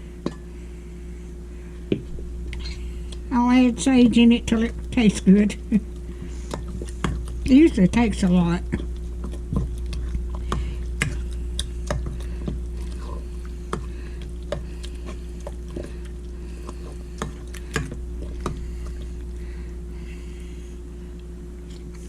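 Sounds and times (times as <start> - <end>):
steady low hum: 0.0 - 22.0
stirring moist food in a bowl: 3.9 - 22.0.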